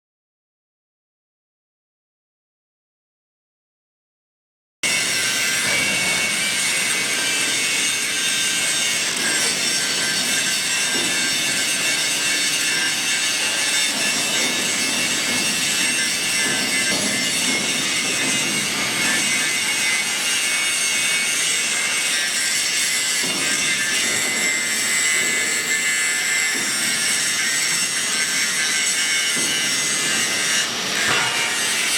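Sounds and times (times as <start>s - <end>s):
angle grinder grinding: 4.8s - 31.9s.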